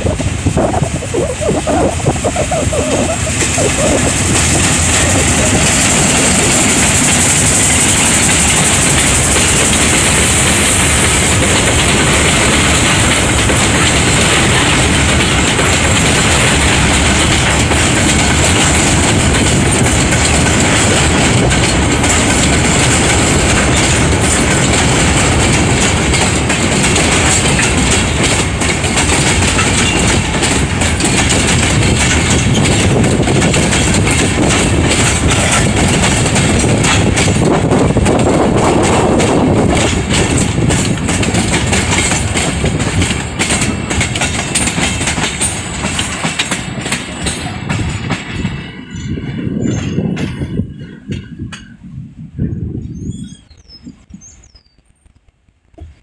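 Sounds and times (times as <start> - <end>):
clickety-clack over rail joints: 0.0 - 51.9, 54.1 - 56.0
freight train wheels rumbling: 0.0 - 56.0.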